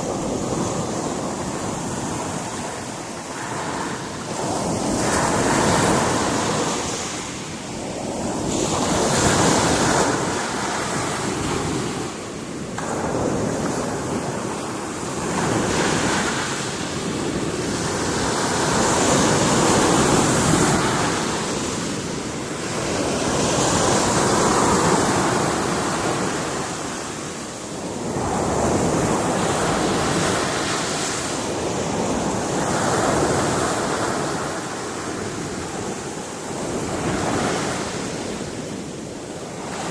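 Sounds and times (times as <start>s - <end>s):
surf breaking on rocky shore: 0.0s - 39.9s.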